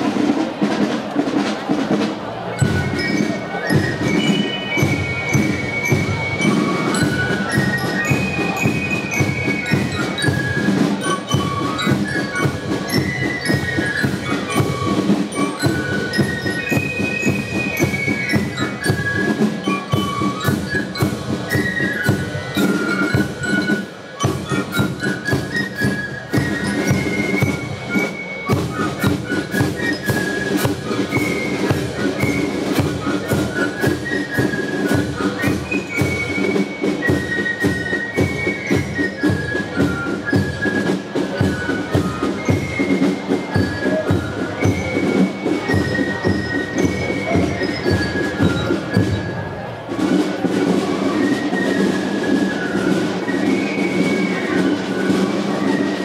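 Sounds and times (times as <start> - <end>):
snare and bass drums beat: 0.0 - 49.2.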